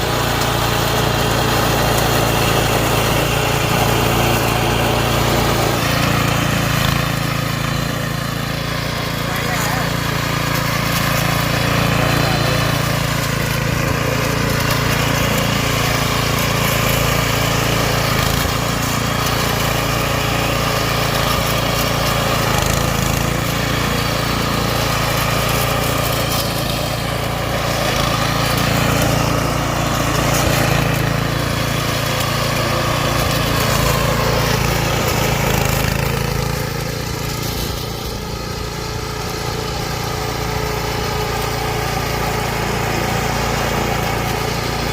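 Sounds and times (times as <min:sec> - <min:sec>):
lawn mower motor hum: 0:00.0 - 0:44.9.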